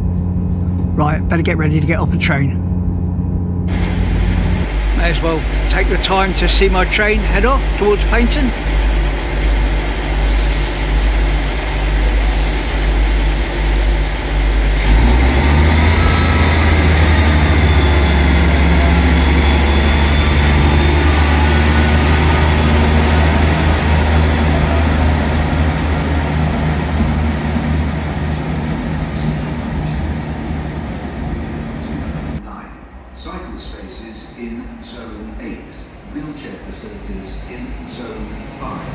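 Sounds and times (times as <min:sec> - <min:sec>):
diesel train pulling away: 0:00.0 - 0:38.9
rising engine whine: 0:00.0 - 0:38.9.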